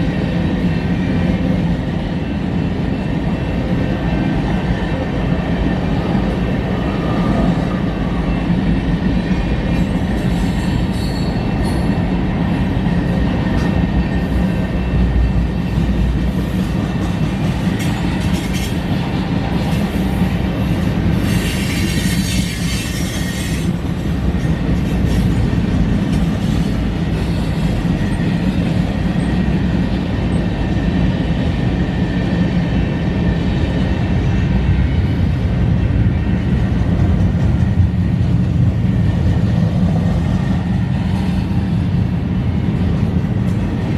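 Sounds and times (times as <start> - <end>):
freight train wheels rumbling: 0.0 - 43.9.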